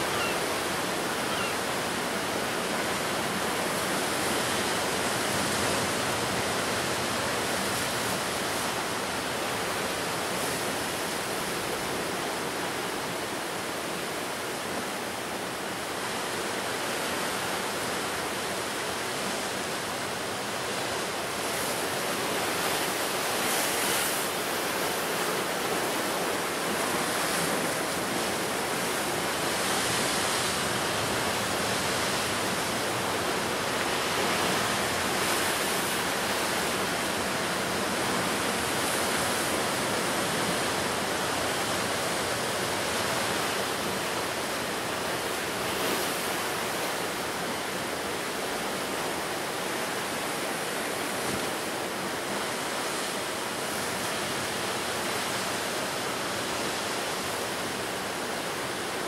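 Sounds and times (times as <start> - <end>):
ocean surf breaking on shore: 0.0 - 59.0.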